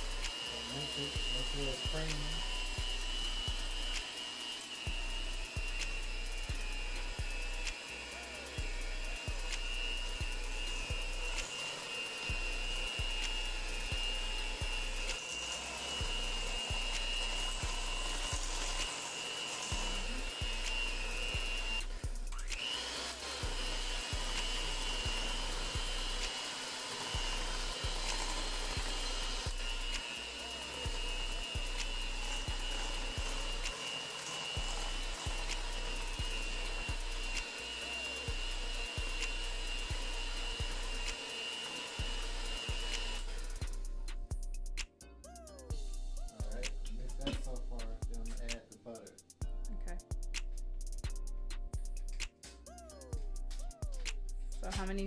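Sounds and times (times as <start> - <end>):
electric mixer whirring: 0.0 - 44.3, 53.9 - 55.0
background music beat: 0.0 - 55.0.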